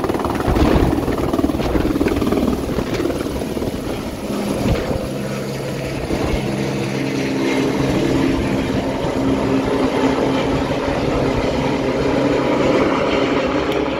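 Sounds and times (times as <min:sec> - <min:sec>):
helicopter rotor and turbine: 0:00.0 - 0:13.9.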